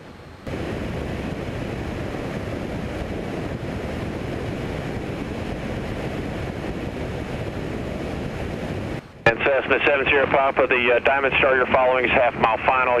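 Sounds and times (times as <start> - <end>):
light aircraft cabin roar: 0.0 - 13.0.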